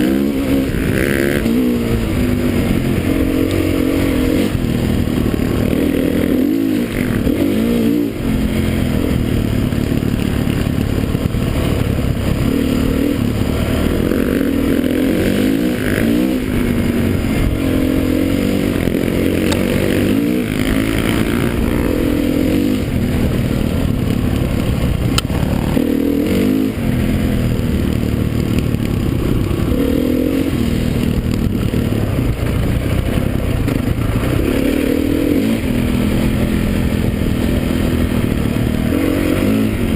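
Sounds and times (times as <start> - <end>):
drone of more bikes: 0.0 - 39.9
motocross bike engines revving: 0.0 - 39.9.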